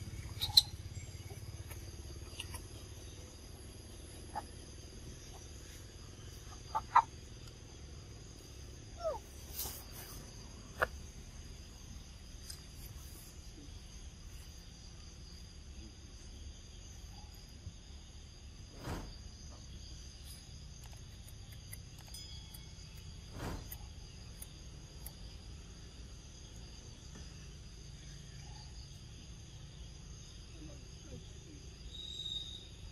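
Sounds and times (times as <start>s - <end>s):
insects chirring: 0.0s - 32.9s.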